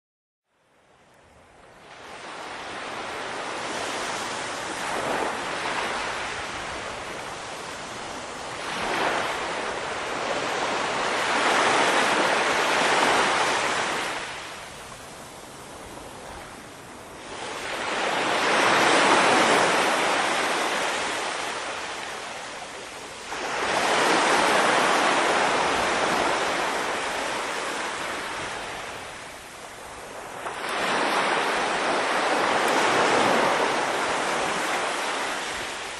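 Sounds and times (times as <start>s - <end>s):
small waves lapping on sand: 1.0s - 35.9s.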